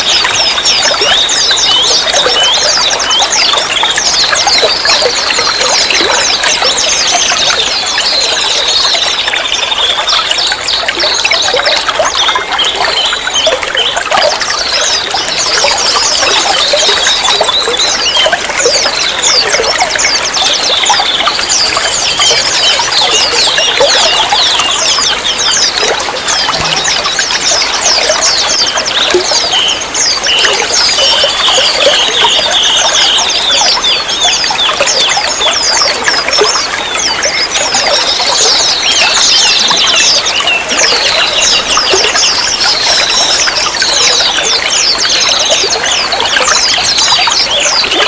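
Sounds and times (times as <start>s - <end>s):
small birds chirping: 0.0s - 48.0s
water trickling: 0.0s - 48.0s.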